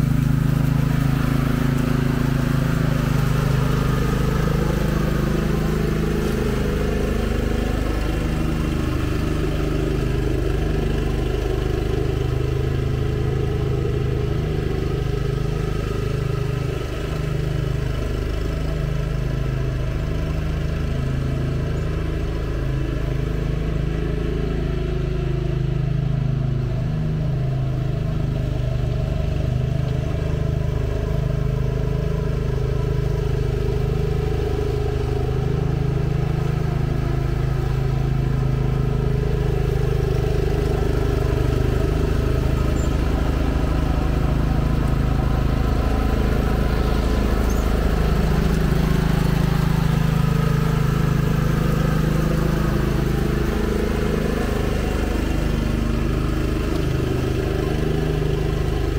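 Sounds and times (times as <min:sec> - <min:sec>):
riding lawn mower engine: 0:00.0 - 0:58.9.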